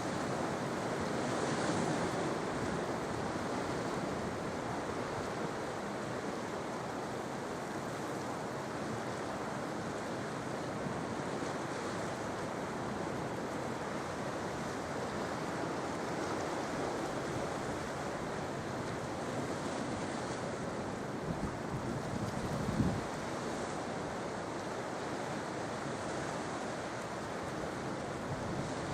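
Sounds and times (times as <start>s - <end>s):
sea surf breaking on shore: 0.0s - 28.9s.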